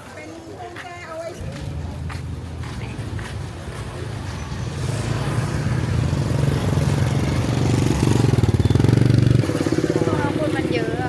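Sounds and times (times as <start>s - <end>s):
motorbike engine approaching: 1.4s - 11.0s.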